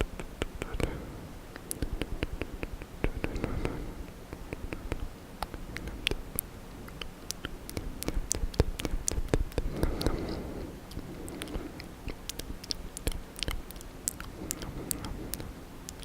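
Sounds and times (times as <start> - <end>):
wet mouth clicks and smacks: 1.5 - 16.0.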